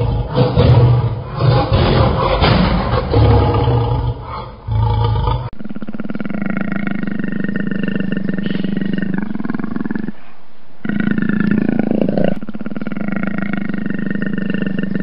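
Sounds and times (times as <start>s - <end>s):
big cat growling: 0.0s - 10.2s, 10.8s - 15.0s.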